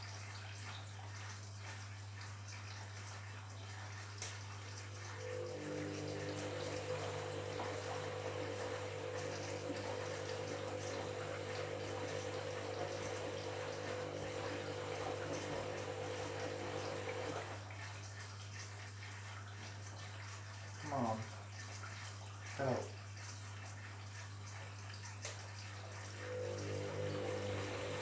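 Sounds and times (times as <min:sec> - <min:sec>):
washing machine hum: 0:00.0 - 0:28.0
water flowing in washing machine: 0:00.0 - 0:28.0.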